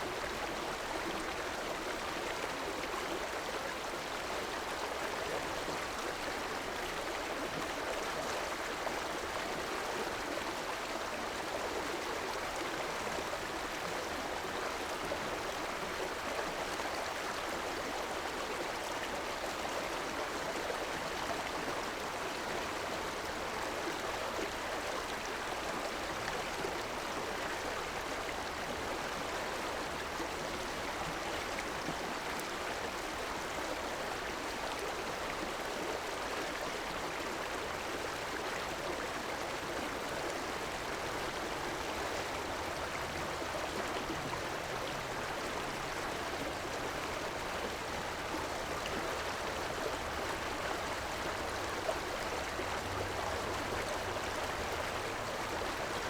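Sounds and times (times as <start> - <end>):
river water flowing over rocks: 0.0 - 56.0.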